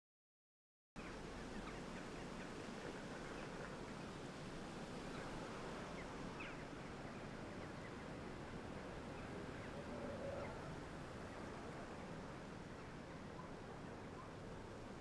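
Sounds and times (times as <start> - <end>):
countryside background noise: 1.0 - 15.0.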